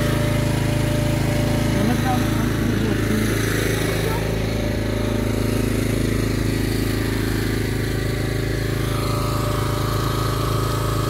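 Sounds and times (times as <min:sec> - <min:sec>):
log splitter engine running: 0:00.0 - 0:11.0.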